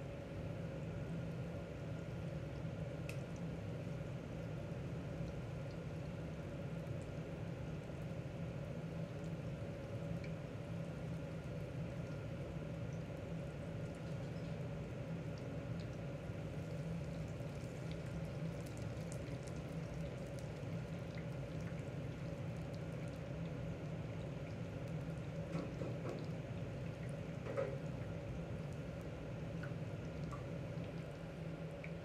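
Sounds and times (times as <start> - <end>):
steady hum: 0.0 - 32.0
liquid bubbling: 2.1 - 32.0.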